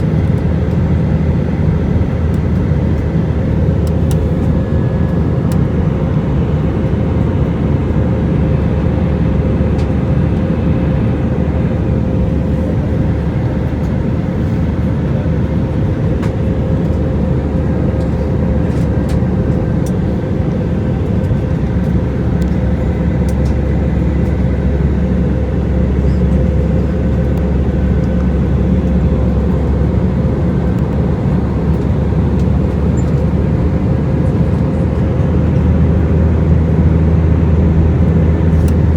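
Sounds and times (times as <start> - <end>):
aircraft cabin engine rumble: 0.0 - 38.9
constant hum: 0.0 - 38.9.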